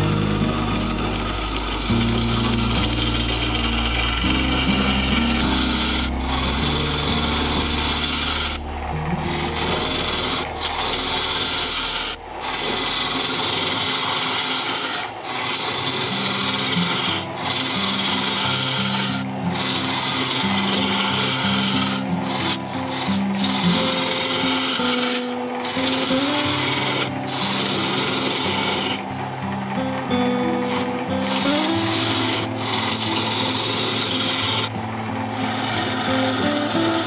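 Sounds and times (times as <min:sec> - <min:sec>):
lathe gouge scraping hiss: 0:00.0 - 0:37.0.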